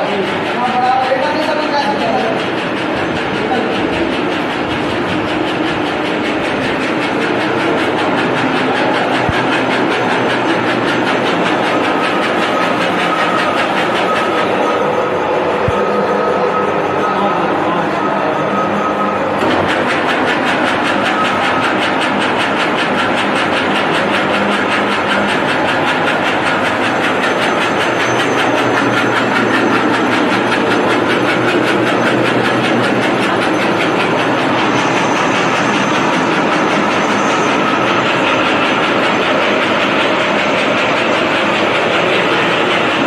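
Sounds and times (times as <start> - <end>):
machinery mechanical clatter: 0.0 - 43.0.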